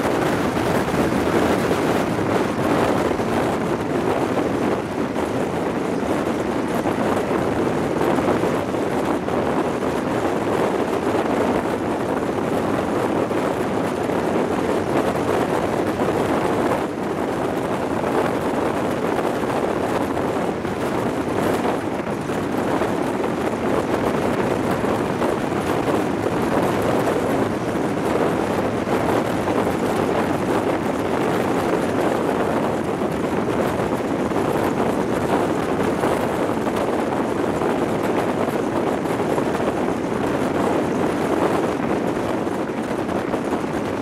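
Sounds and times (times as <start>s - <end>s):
train running noise: 0.0s - 44.0s
wind rushing over microphone: 0.0s - 44.0s.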